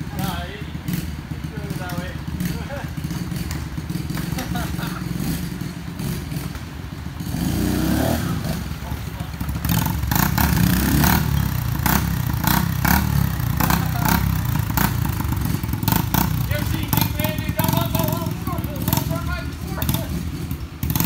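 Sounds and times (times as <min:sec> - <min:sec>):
dirt bike engines revving: 0:00.0 - 0:21.0
engine crackles: 0:00.0 - 0:21.0.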